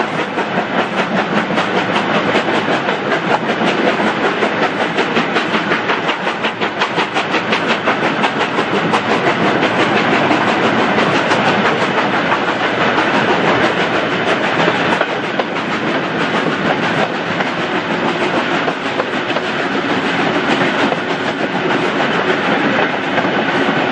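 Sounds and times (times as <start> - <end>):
steam locomotive exhaust beats: 0.0 - 23.9
train wheels on rails: 0.0 - 23.9.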